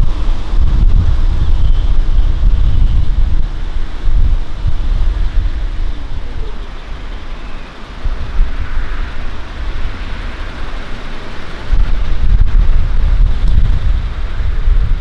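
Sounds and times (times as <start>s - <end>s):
faint passing engine: 0.0s - 15.0s
vehicle noise: 0.0s - 15.0s
wind buffeting microphone: 0.0s - 15.0s.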